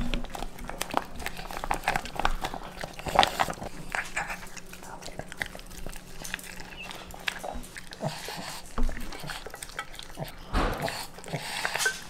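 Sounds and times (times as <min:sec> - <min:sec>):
dog chewing and licking: 0:00.0 - 0:12.0.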